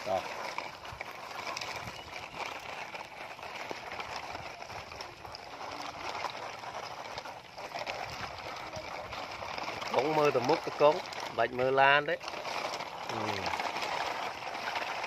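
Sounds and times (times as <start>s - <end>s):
gravel crunches and clicks: 0.0s - 15.0s
water splashing and trickling: 0.0s - 15.0s.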